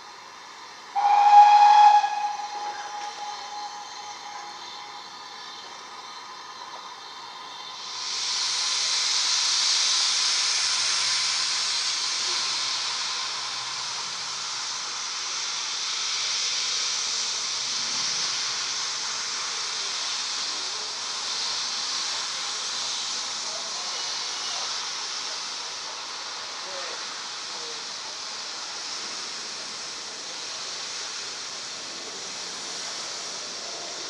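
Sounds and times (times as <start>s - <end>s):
steam hissing from locomotive: 0.0s - 34.0s.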